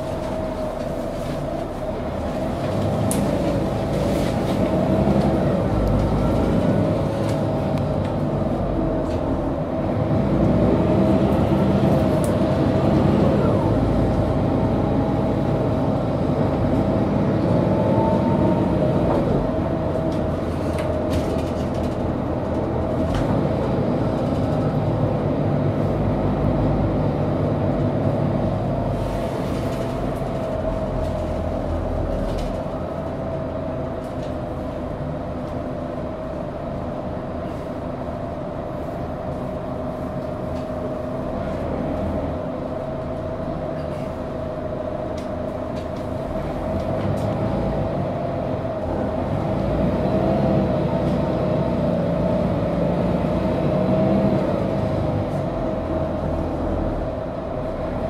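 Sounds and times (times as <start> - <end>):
bus engine drone with whine: 0.0 - 58.0.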